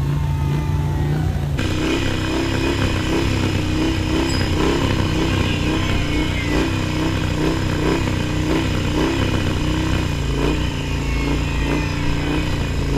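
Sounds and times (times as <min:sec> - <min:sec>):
motorcycle engine running steadily: 0:00.0 - 0:12.9.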